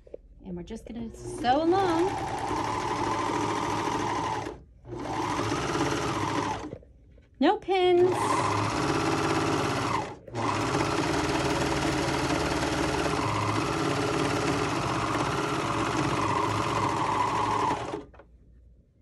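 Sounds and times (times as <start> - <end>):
serger sewing machine running: 1.1 - 6.7, 8.0 - 18.2.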